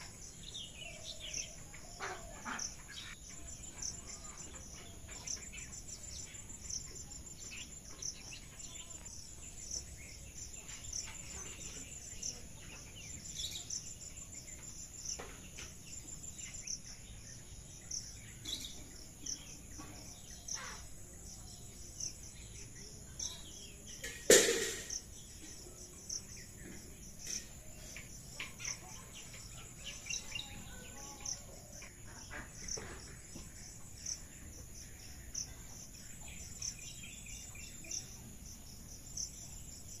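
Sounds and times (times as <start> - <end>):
insects chirping: 0.0 - 40.0.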